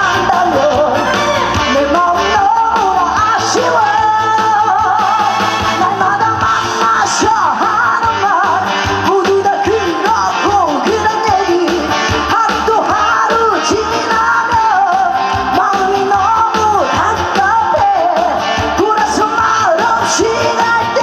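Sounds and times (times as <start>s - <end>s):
upbeat song over speakers: 0.0s - 21.0s.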